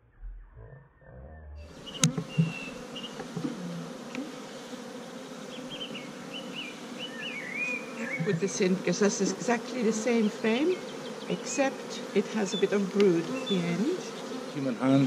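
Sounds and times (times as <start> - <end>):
bees buzzing: 1.7 - 15.0.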